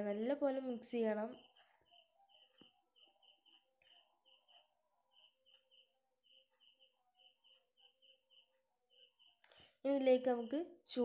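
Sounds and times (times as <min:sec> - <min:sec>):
faint high chirping: 0:00.9 - 0:11.0.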